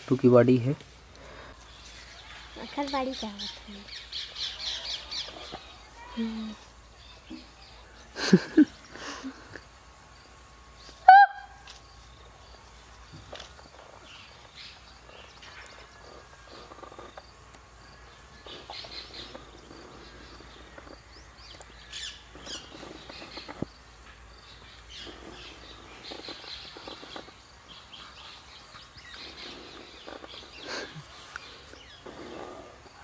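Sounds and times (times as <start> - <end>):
birds chirping: 0.1 - 33.0.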